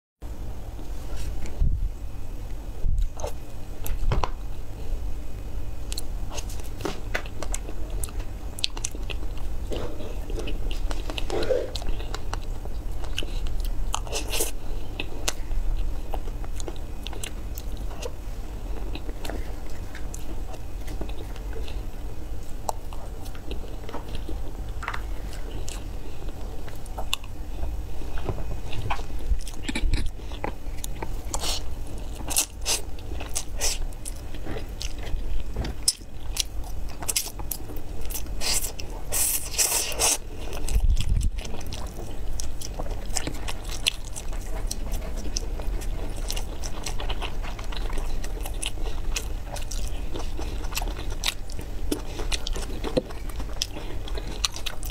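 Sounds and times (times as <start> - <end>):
chewing and crunching: 2.9 - 54.9.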